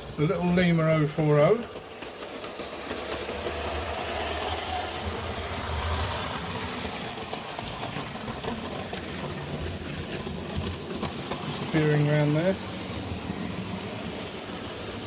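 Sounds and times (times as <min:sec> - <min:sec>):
model train motor whirring: 0:00.0 - 0:15.0
wheels clicking over rail joints: 0:00.0 - 0:15.0.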